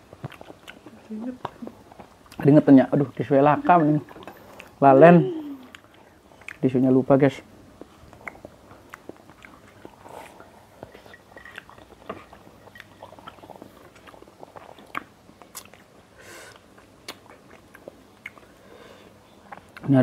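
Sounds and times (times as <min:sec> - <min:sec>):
chewing and mouth clicks: 0:00.0 - 0:04.8, 0:05.6 - 0:06.7, 0:07.8 - 0:15.9, 0:16.5 - 0:18.6, 0:19.4 - 0:19.9.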